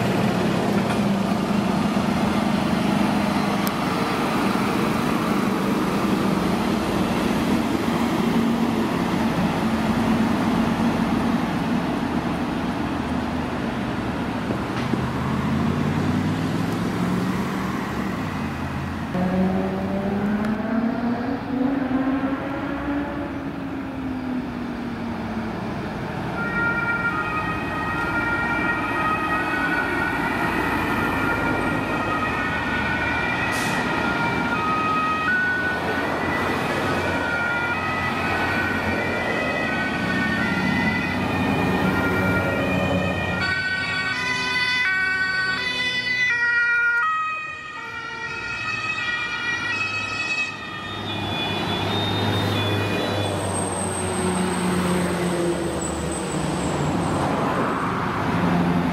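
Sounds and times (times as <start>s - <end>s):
truck diesel engines: 0.0s - 58.9s
two-tone sirens: 0.0s - 58.9s.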